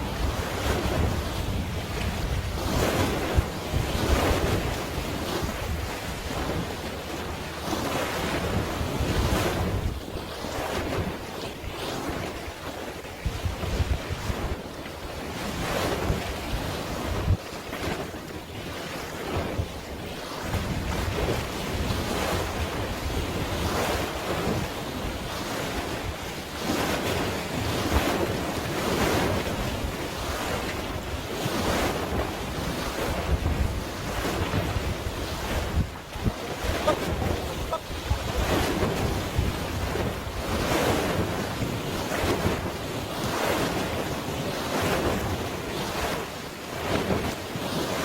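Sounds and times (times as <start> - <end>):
sea waves washing: 0.0 - 48.0
wind buffeting microphone: 0.0 - 48.0.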